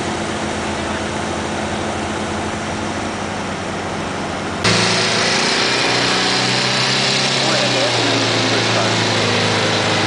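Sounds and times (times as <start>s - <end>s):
diesel truck engines running: 0.0s - 10.0s.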